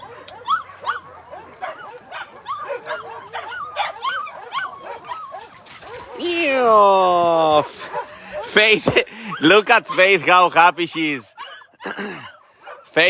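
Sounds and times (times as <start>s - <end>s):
puppies whimpering and yipping: 0.0s - 12.8s.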